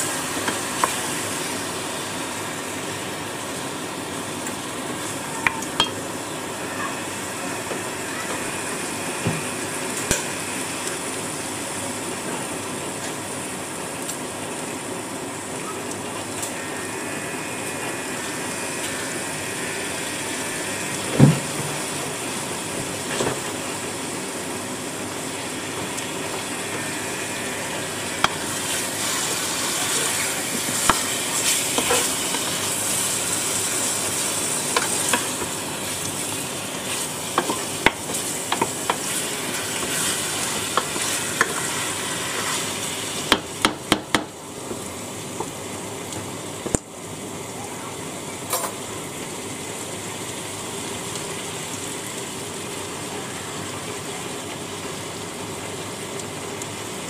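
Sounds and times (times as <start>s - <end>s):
meat and onions sizzling in a pot: 0.0s - 57.0s.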